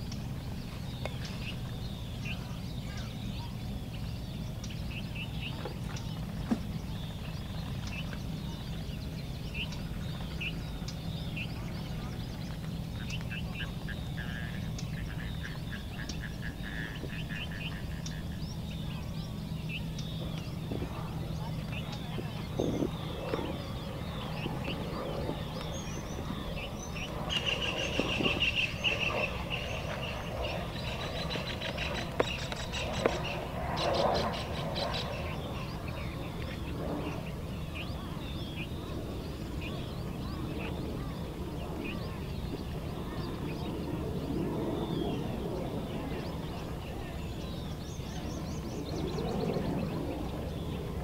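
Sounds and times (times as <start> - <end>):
small birds chirping: 0.0 - 51.0
steady low background noise: 0.0 - 51.0.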